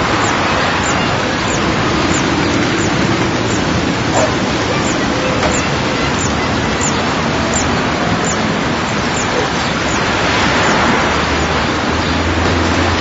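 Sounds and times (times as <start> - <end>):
garden ambience: 0.0 - 13.0
low hum: 0.0 - 13.0
street traffic: 0.0 - 13.0
wind: 0.0 - 13.0.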